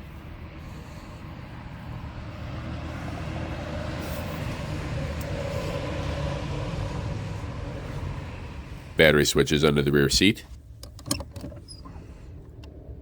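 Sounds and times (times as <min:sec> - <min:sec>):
road vehicle passing rumble: 0:00.0 - 0:13.0.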